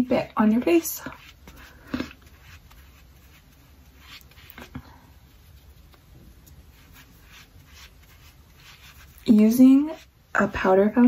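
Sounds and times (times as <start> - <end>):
makeup sponge scratching and tapping: 0.4 - 10.8.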